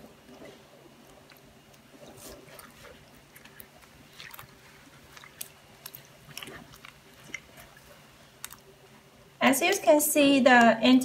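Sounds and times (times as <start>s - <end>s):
liquid sloshing and dripping: 0.0s - 9.4s
wet squelches: 0.0s - 10.0s.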